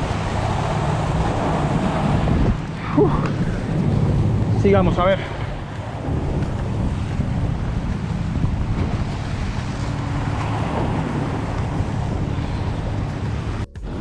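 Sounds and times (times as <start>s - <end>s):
sea surf against rocks: 0.0s - 14.0s
wind noise on microphone: 0.0s - 14.0s.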